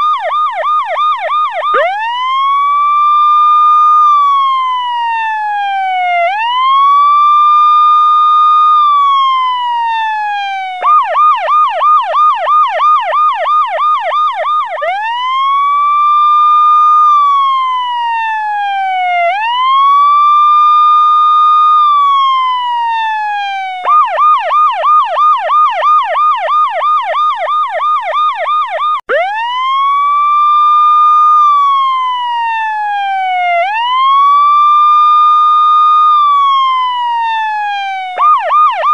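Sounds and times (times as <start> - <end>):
police siren wail and yelp: 0.0 - 38.9.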